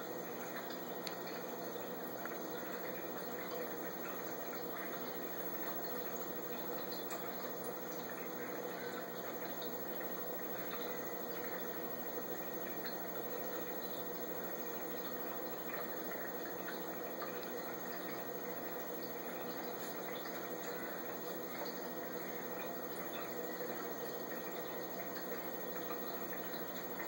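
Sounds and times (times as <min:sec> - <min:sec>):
faint pump hum: 0:00.0 - 0:27.0.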